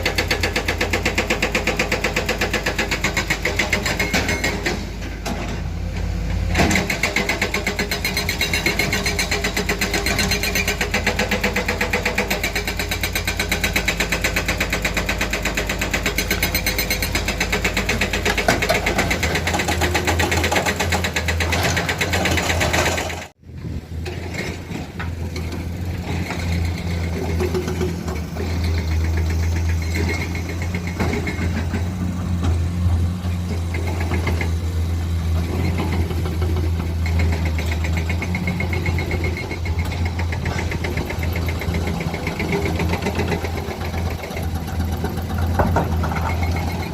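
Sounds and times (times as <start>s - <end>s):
diesel engines chugging: 0.0s - 46.9s.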